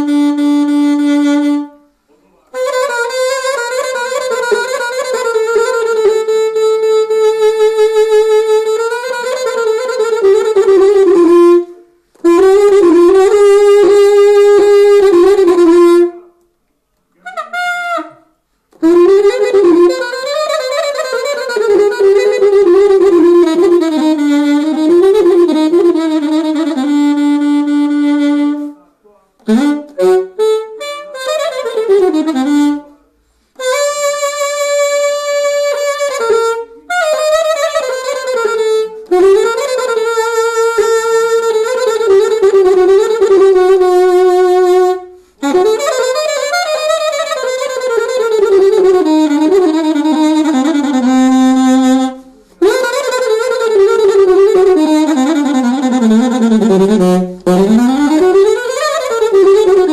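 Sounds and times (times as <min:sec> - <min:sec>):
solo saxophone melody: 0:00.0 - 0:16.5, 0:17.1 - 0:59.9.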